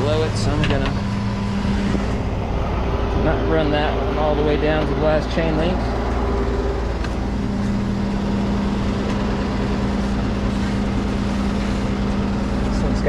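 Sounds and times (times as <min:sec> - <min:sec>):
steady hum: 0:00.0 - 0:13.0
truck engine idling: 0:00.0 - 0:13.0.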